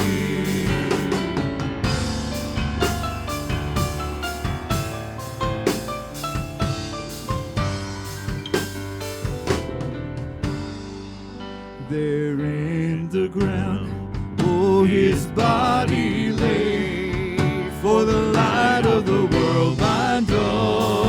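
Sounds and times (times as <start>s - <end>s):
drum kit beat: 0.0s - 11.7s, 13.4s - 21.0s
worship band playing: 0.0s - 21.0s.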